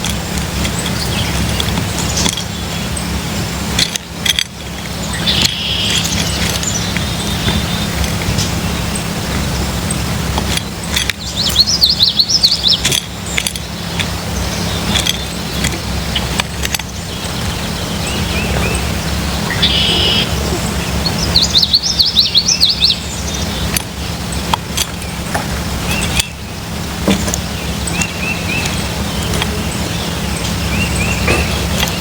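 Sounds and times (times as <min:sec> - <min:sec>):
songbirds singing: 0:00.0 - 0:32.0
steady low hum: 0:00.0 - 0:32.0.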